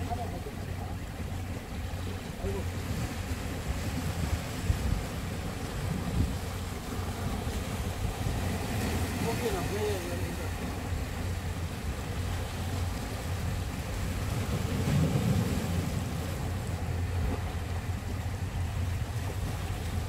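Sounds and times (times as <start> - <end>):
wind rumbling on microphone: 0.0 - 20.0
small waves washing against rocks: 2.0 - 20.0.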